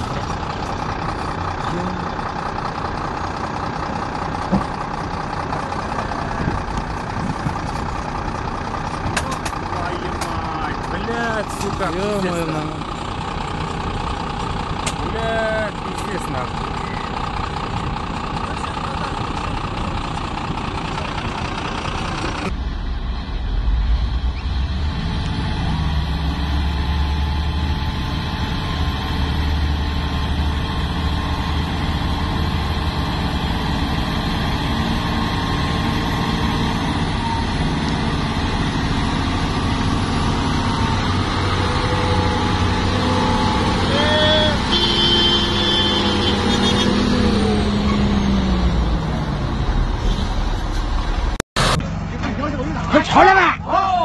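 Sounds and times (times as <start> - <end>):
truck diesel engines rumbling: 0.0 - 54.0.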